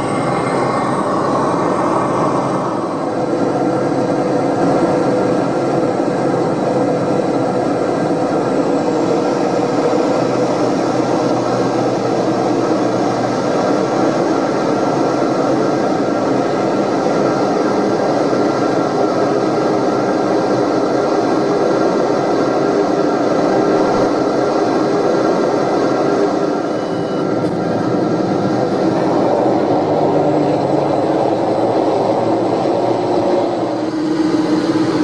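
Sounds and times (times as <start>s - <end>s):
turboprop drone in cabin: 0.0s - 35.0s.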